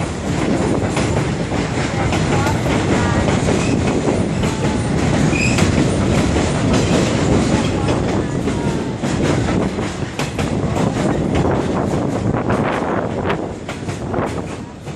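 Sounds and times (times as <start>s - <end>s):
train wheels rumbling and clacking: 0.0s - 14.9s.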